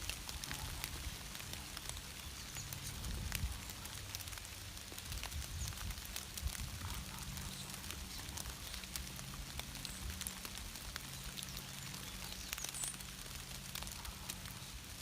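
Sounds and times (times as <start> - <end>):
raindrops ticking on leaves: 0.0 - 15.0
soft rain hiss: 0.0 - 15.0.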